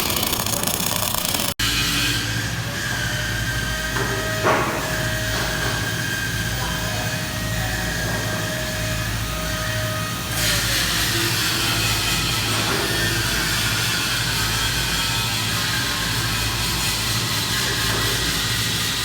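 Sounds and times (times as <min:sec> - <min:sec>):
machine humming and whining: 0:00.0 - 0:19.0.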